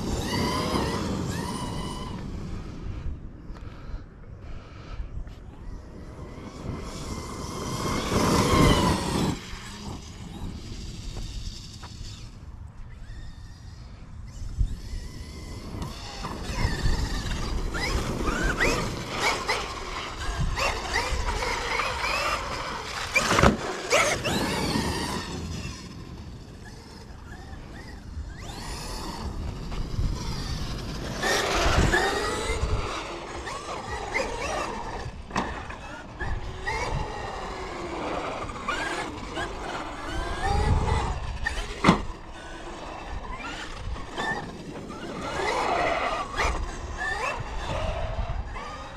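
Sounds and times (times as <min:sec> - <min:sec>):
rc truck motor whine: 0:00.0 - 0:48.9
tyre and dirt noise: 0:00.0 - 0:48.9.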